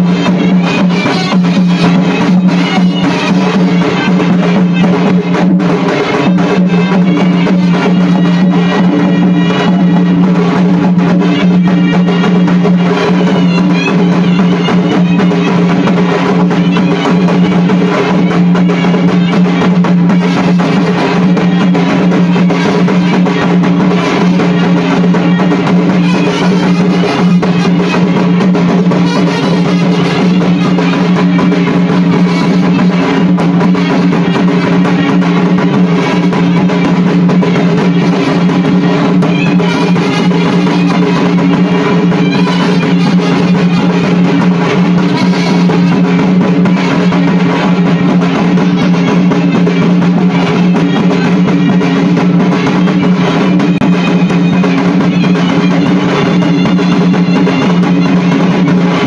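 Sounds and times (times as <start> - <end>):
barrel drums beating: 0.0 - 59.0.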